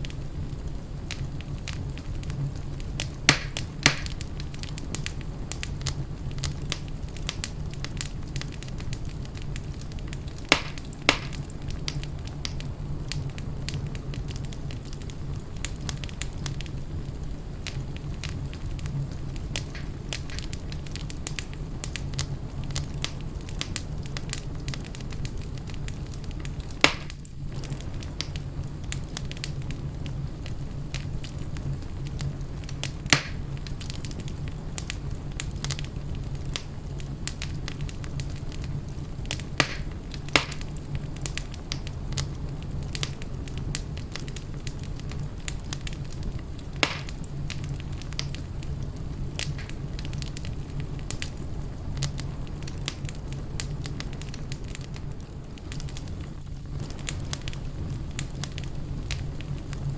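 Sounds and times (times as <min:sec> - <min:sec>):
sharp fire pops: 0:00.0 - 0:59.9
wood fire crackling: 0:00.0 - 0:59.9.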